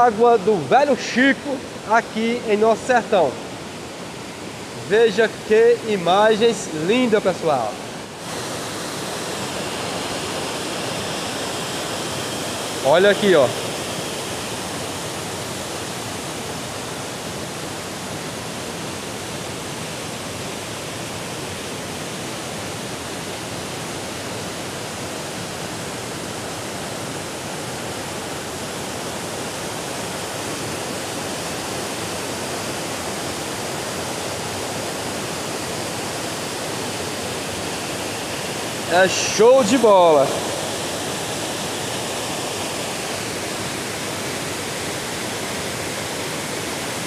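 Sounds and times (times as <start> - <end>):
waterfall rushing: 0.0 - 20.4, 23.4 - 47.0.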